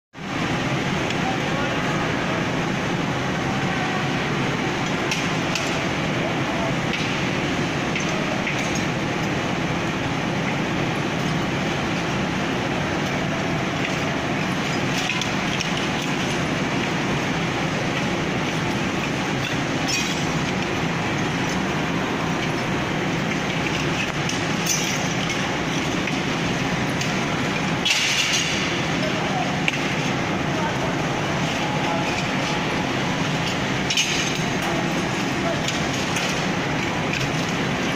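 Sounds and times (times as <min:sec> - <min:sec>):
machinery rumble: 0:00.2 - 0:37.9.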